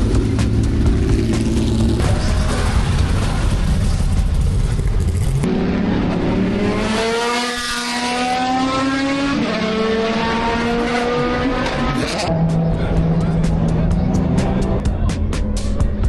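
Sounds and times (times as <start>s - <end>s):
racing car engine accelerating: 0.0s - 14.9s.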